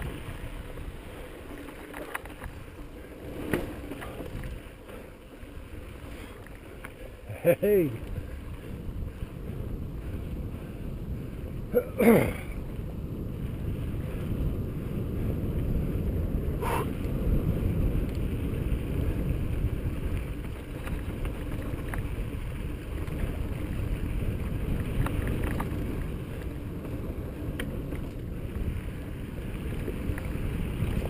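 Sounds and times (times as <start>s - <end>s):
bike clicking on rock: 0.0s - 31.0s
wind buffeting microphone: 0.0s - 31.0s.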